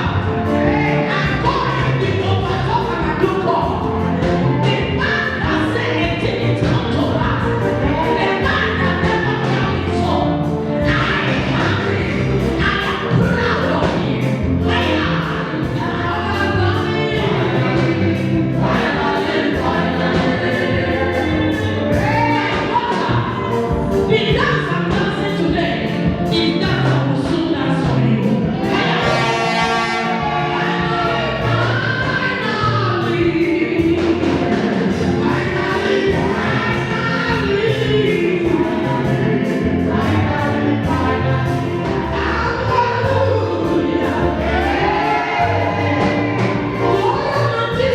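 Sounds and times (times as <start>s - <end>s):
gospel choir singing: 0.0s - 47.9s
musical accompaniment with beat: 0.0s - 47.9s.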